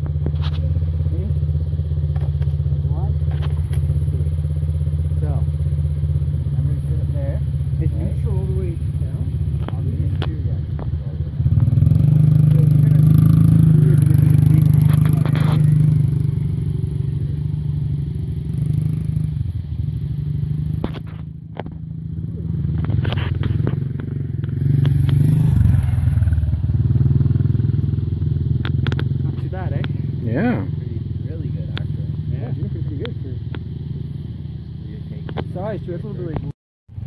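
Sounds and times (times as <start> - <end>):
dirt bikes rumbling: 0.0 - 37.0.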